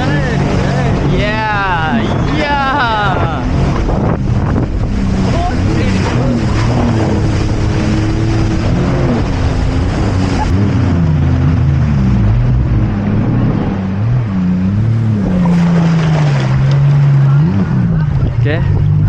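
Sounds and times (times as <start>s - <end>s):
jet ski engine: 0.0s - 19.0s
rush of wind and water: 0.0s - 19.0s.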